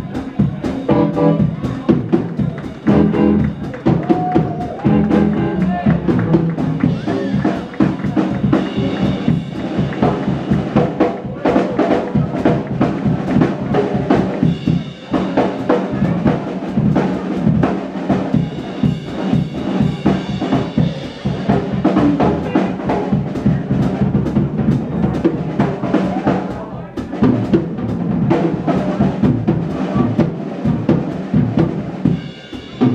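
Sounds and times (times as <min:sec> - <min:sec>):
blues band playing: 0:00.0 - 0:32.9.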